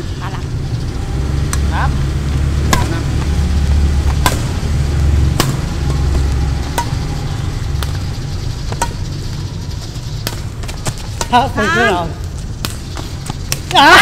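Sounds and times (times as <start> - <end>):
steady low rumble: 0.0 - 13.7
rackets hitting shuttlecock: 2.6 - 14.0.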